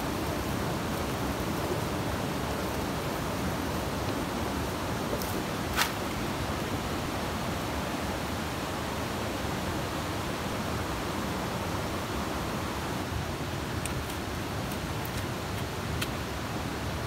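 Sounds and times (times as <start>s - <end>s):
stream flowing over rocks: 0.0s - 17.0s.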